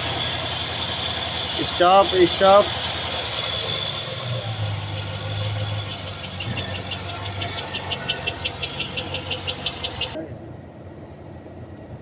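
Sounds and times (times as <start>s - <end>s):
car engine idling: 0.0s - 10.2s
valve lifter ticking: 0.0s - 10.2s.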